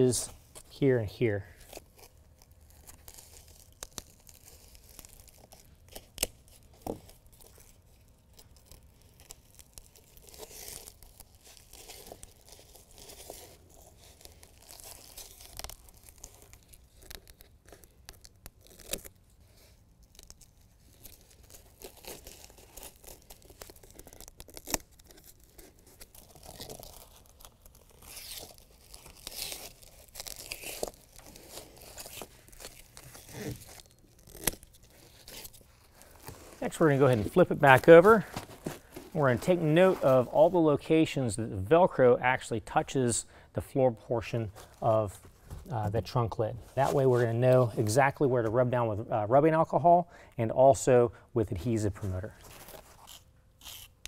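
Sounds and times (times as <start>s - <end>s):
hook-and-loop tape ripping: 0.0s - 43.2s, 51.6s - 54.0s.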